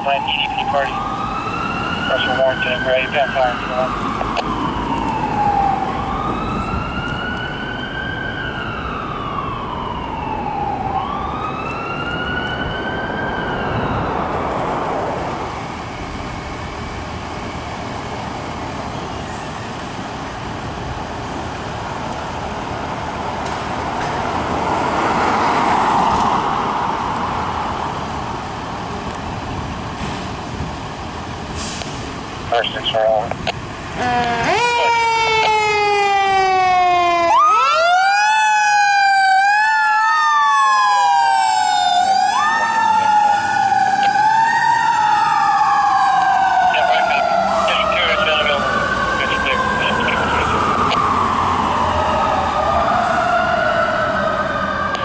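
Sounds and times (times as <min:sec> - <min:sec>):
fire truck siren wailing: 0:00.0 - 0:55.0
rumble of engines and traffic: 0:00.0 - 0:55.0.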